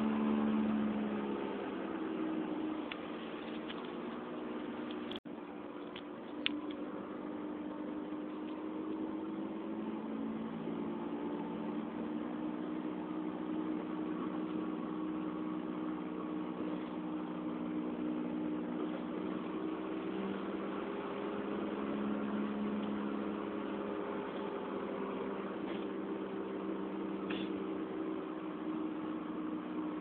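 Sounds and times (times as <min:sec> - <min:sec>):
road noise: 0:00.0 - 0:30.0
wheel bearing droning: 0:00.0 - 0:30.0.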